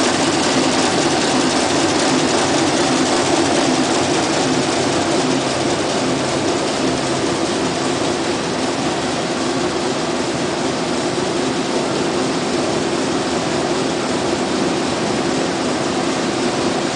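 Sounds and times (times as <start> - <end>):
loom mechanical clatter and hum: 0.0 - 16.9.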